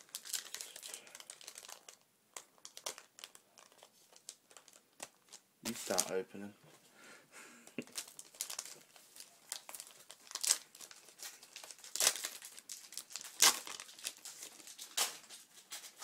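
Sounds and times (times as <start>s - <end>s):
foil pack ripping: 0.0s - 2.0s, 2.6s - 6.1s, 7.8s - 16.0s
foil pack crackling: 0.0s - 6.2s, 7.8s - 16.0s.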